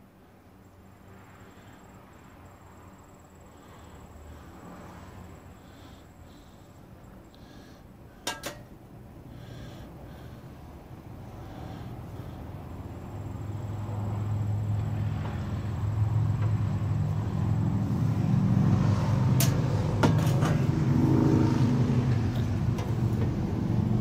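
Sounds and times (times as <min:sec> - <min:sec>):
low humming motor rumble: 0:03.0 - 0:24.0.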